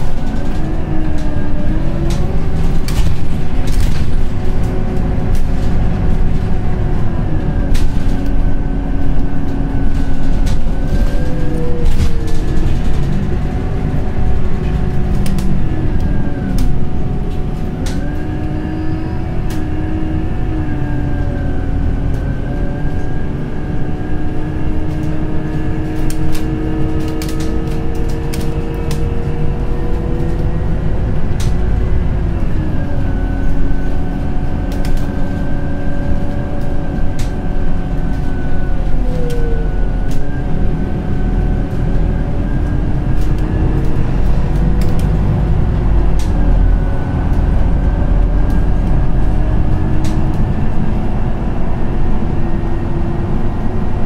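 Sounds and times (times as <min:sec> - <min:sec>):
bus engine rumble: 0:00.0 - 0:54.0.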